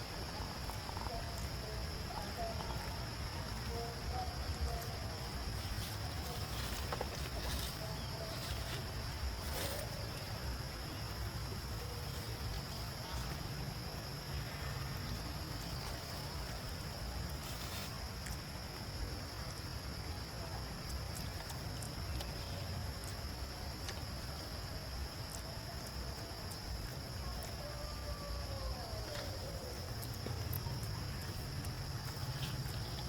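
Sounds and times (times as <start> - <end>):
insects droning: 0.0 - 33.0
low outdoor rumble: 0.0 - 33.0.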